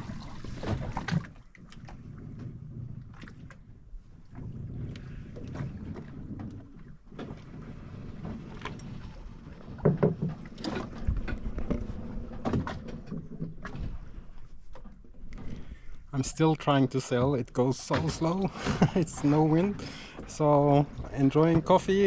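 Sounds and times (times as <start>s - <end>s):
water sloshing around boat: 0.0s - 22.0s.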